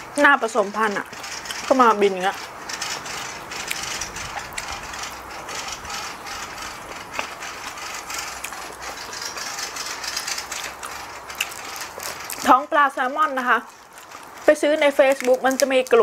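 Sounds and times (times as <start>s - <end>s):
lettuce leaves crackling: 0.4s - 16.0s
crunchy chewing: 0.9s - 16.0s.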